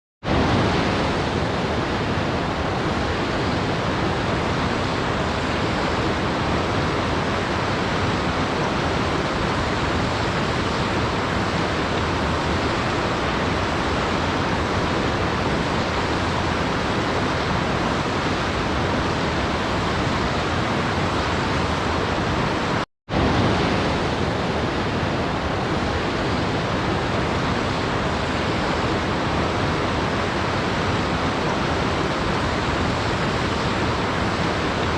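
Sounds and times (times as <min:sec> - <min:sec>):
waterfall rushing: 0:00.3 - 0:34.9.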